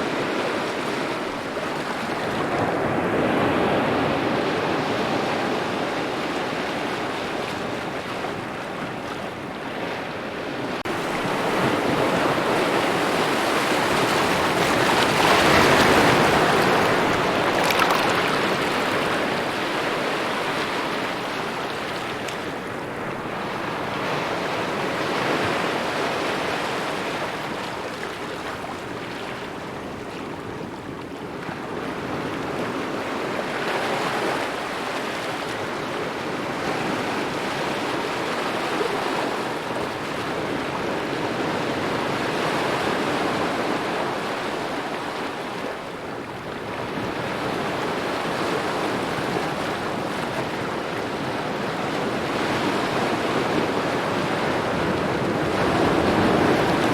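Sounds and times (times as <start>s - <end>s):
small waves lapping on shore: 0.0s - 56.9s.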